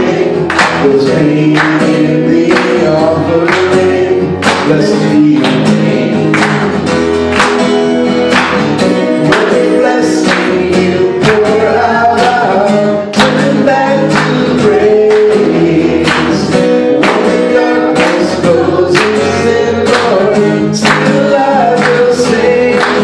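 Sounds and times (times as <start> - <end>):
man and woman singing: 0.0 - 6.8, 9.2 - 23.0
acoustic guitar strumming: 0.0 - 23.0.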